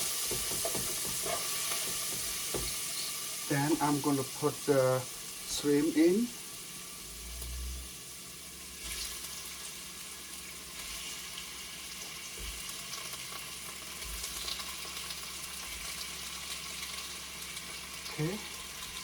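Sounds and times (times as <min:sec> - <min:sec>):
shrimp sizzling in hot oil: 0:00.0 - 0:19.0.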